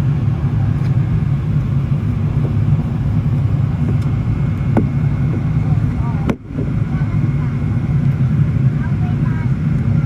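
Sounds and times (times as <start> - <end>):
vehicle interior rumble: 0.0 - 10.0.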